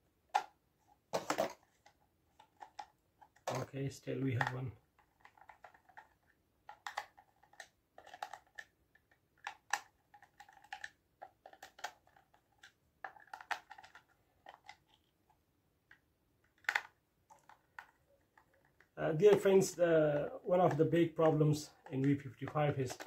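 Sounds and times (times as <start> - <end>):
plastic casing clicks and scrapes: 0.3 - 3.7, 4.3 - 19.4, 21.7 - 23.0.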